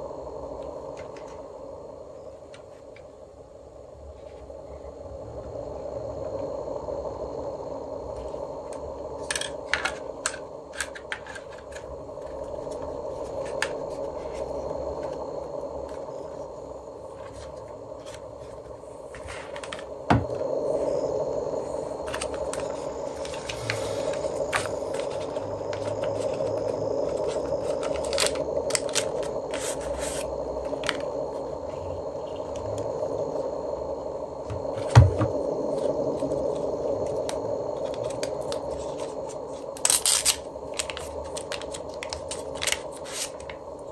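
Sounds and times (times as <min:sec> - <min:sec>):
steady background hum: 0:00.0 - 0:43.9.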